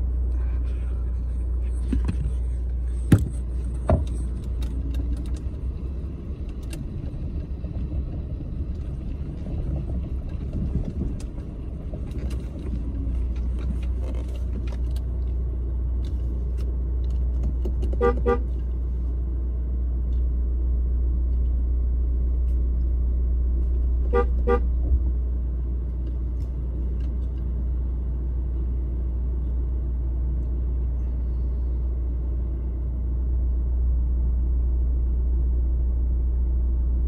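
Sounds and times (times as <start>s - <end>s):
vehicle engine and tyre rumble: 0.0s - 37.0s.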